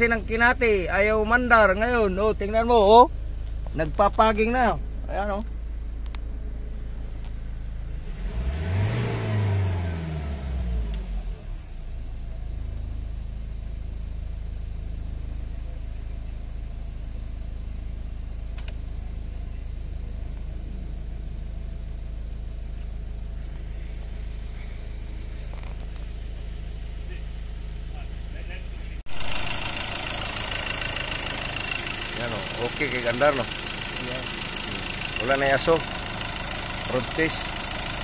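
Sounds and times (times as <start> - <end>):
diesel engine revving then idling: 0.0 - 38.0.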